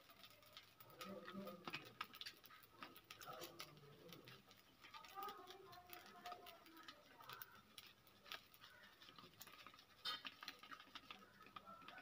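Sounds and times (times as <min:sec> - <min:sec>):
batter crackling on a hot pan: 0:00.0 - 0:12.0.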